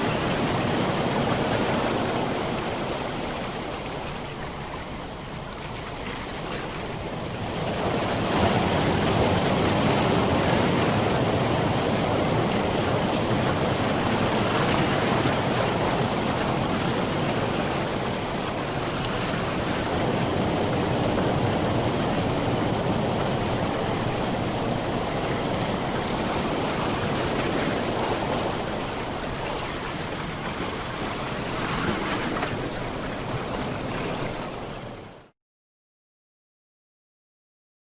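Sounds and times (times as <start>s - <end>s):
ocean waves breaking on shore: 0.0s - 35.3s.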